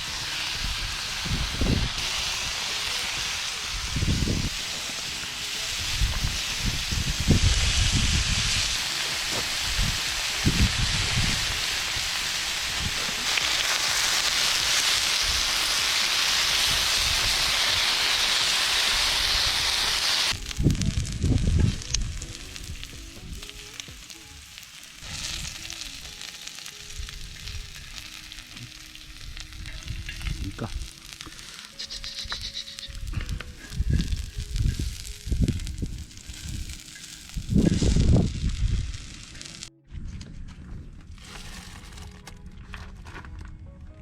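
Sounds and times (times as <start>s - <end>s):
faint background music: 0.0s - 17.0s, 20.3s - 44.0s
food sizzling: 0.0s - 39.7s.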